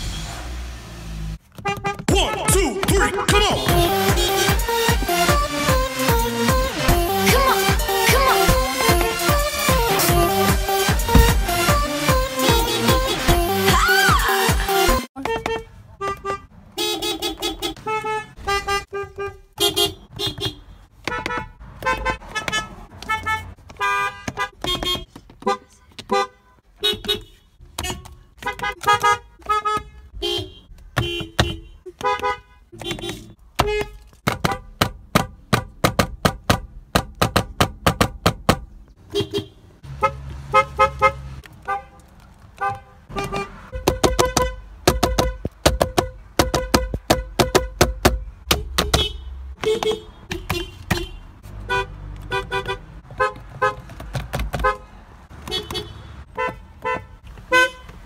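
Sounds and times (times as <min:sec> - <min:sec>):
car horns honking: 0:01.4 - 0:35.8, 0:39.0 - 0:58.0.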